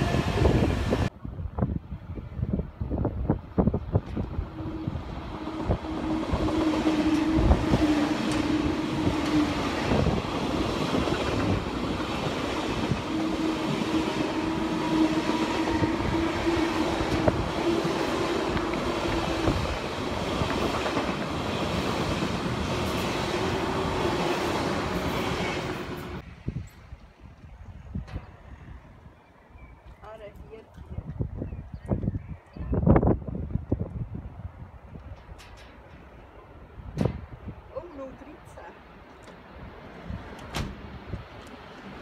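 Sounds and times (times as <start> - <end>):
train drive hum: 0.0 - 29.1, 32.9 - 42.0
train rolling rush: 0.0 - 29.1, 31.1 - 42.0.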